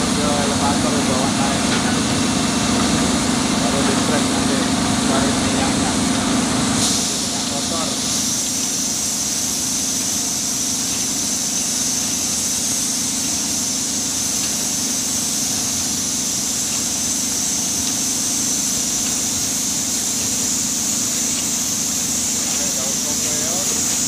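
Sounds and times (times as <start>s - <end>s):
high hiss: 0.0s - 24.0s
mill machinery low drone: 0.0s - 24.0s.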